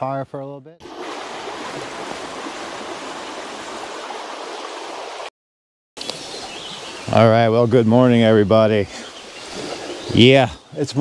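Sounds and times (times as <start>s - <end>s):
creek water rushing: 0.8s - 5.3s, 6.0s - 11.0s.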